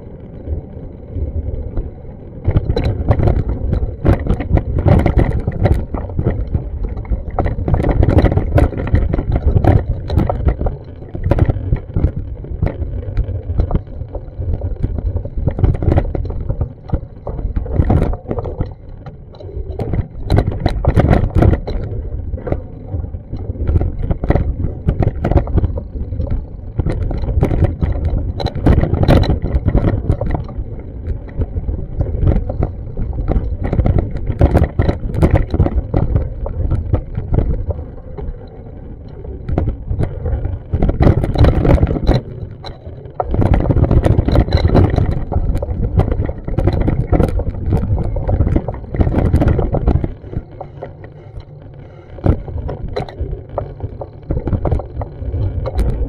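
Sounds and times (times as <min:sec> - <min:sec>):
wind buffeting microphone: 0:01.2 - 0:18.9, 0:19.5 - 0:51.4, 0:52.1 - 0:53.6.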